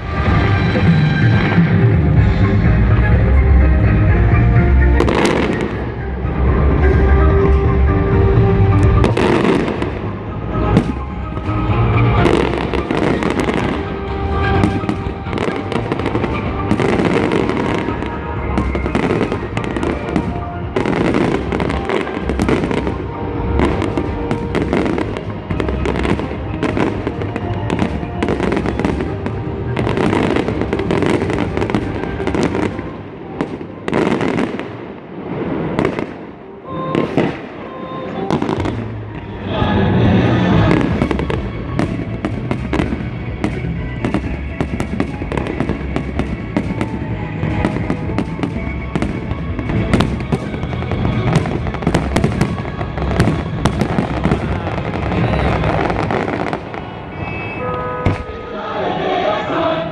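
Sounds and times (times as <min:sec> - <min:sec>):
fireworks bangs and crackles: 0:00.0 - 0:58.5.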